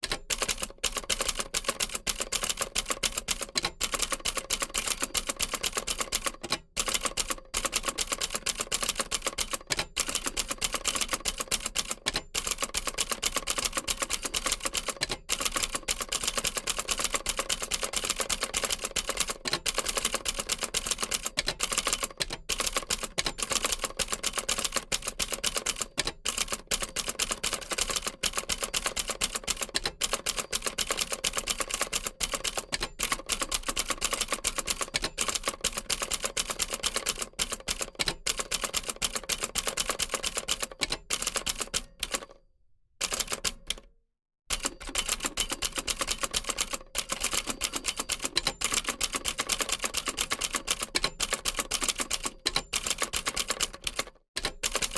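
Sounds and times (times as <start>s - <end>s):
typewriter keystrokes clacking: 0.0s - 42.3s, 43.0s - 43.9s, 44.5s - 54.9s.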